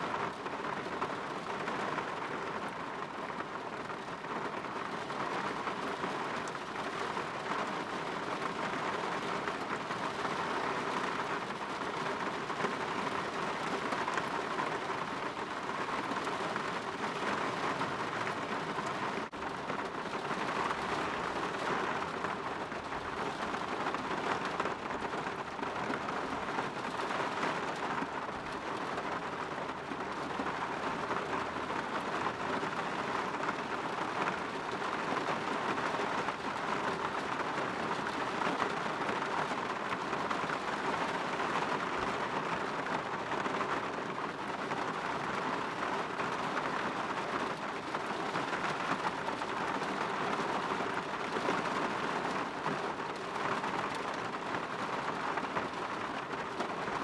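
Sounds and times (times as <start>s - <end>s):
rain pattering on window: 0.0s - 57.0s.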